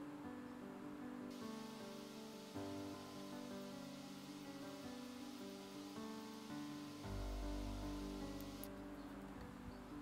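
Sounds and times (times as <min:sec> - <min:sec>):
instrumental background music: 0:00.1 - 0:10.0.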